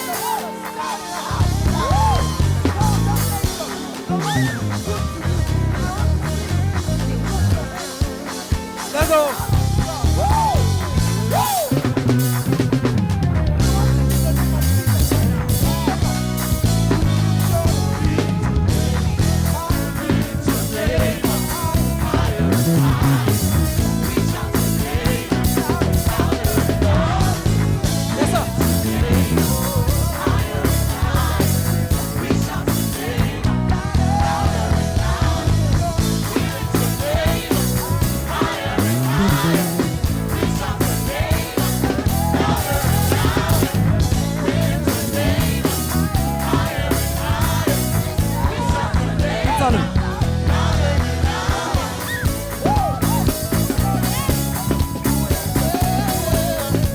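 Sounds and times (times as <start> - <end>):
bass guitar line: 0.0 - 56.9
gospel band playing: 0.0 - 56.9
people singing: 0.0 - 56.9.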